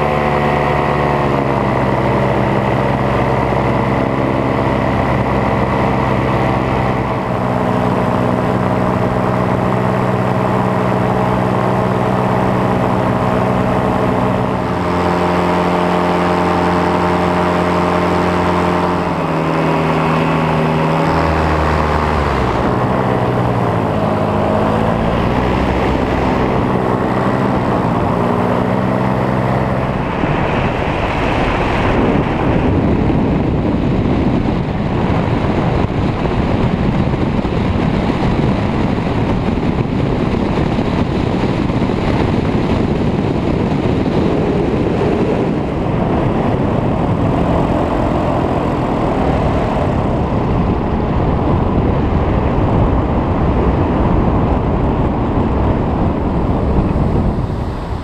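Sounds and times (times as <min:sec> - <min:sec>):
paramotor engine and propeller: 0:00.0 - 0:58.0
wind rushing over microphone: 0:00.0 - 0:58.0.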